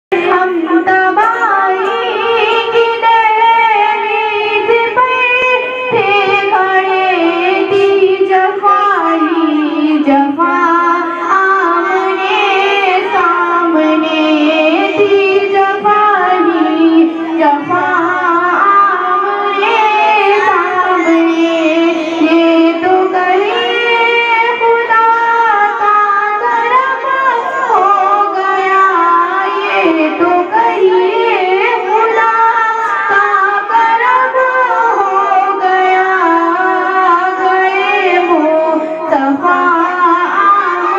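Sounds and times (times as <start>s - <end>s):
woman singing a devotional hymn: 0.1s - 40.9s.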